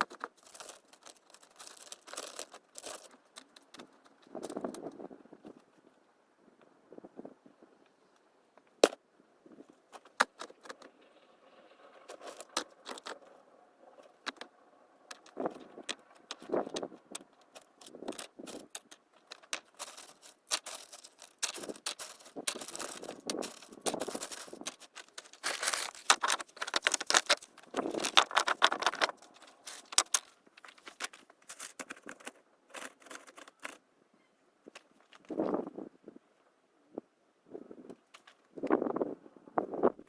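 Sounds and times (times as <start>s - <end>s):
handling clicks and rustling: 0.0s - 6.0s, 9.6s - 33.9s, 34.6s - 35.6s, 37.9s - 38.8s.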